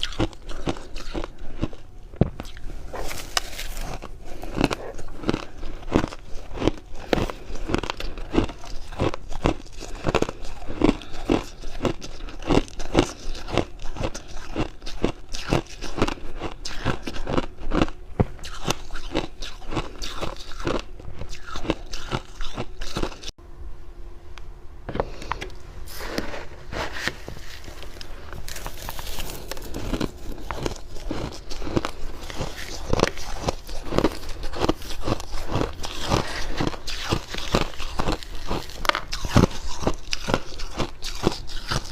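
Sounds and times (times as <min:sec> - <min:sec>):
chewing frost crunches: 0:00.0 - 0:23.3, 0:27.1 - 0:41.9.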